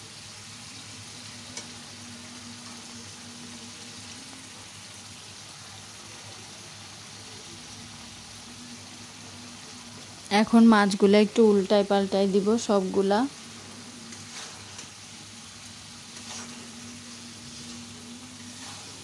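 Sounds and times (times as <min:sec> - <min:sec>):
fish sizzling in pan: 0:00.0 - 0:19.0.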